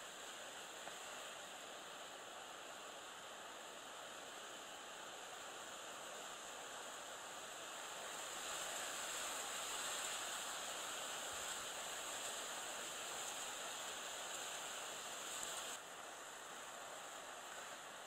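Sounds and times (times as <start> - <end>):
lakeside ambient hiss: 0.0 - 18.0.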